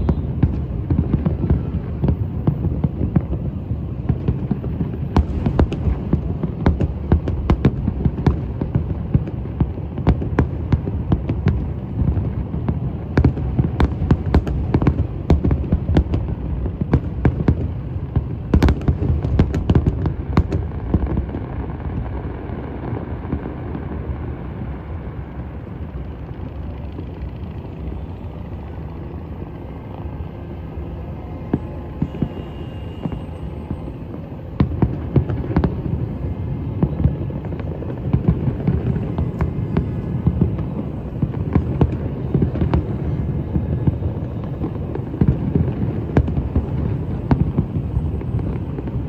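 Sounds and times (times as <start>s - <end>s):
fireworks bangs and cracks: 0.0s - 27.6s, 28.6s - 49.0s.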